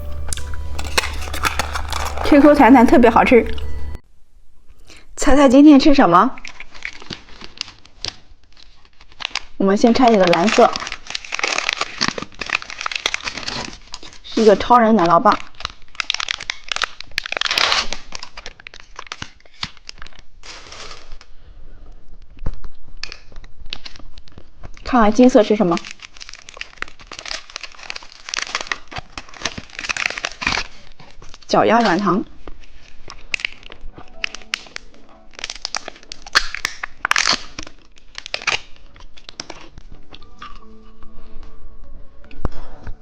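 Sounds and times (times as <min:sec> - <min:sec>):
plastic wrapper crinkling: 0:00.0 - 0:04.0, 0:06.4 - 0:21.4, 0:22.2 - 0:41.5
wrapper tearing: 0:00.0 - 0:04.0, 0:06.4 - 0:21.4, 0:22.2 - 0:41.5.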